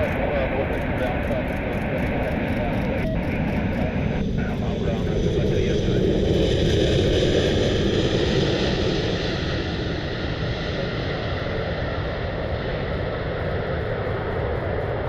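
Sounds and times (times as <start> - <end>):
jet airliner engine rumble: 0.0 - 15.0.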